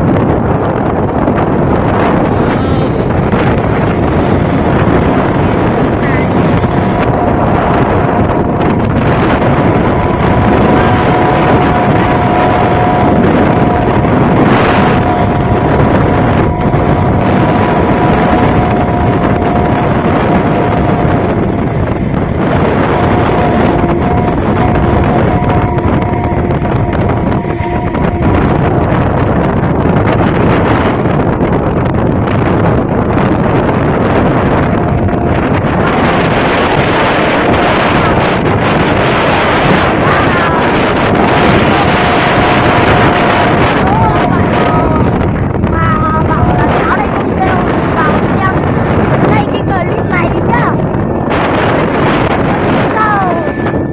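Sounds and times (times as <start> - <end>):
kite flutes droning: 0.0 - 53.9
wind noise on microphone: 0.0 - 53.9.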